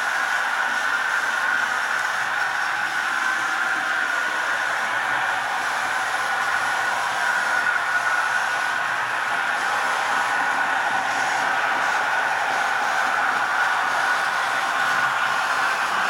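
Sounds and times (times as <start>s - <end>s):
model trains whirring on track: 0.0s - 16.0s.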